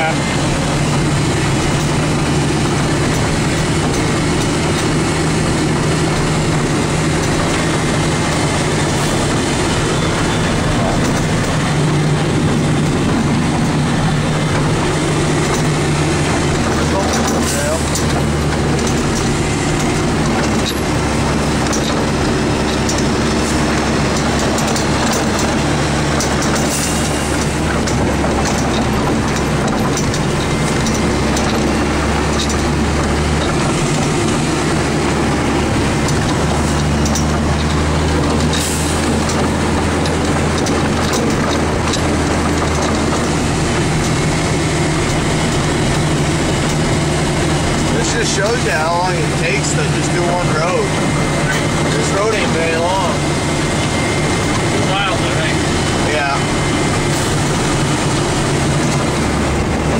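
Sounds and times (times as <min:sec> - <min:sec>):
plow pushing snow rumble: 0:00.0 - 0:59.9
truck engine drone: 0:00.0 - 0:59.9.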